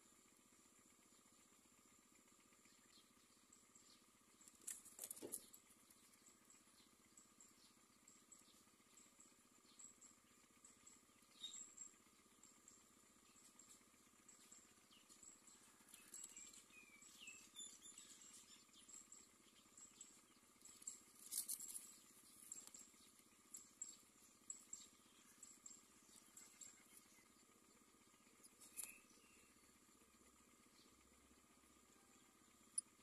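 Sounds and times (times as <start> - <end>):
faint bird chirps: 0.0 - 33.0.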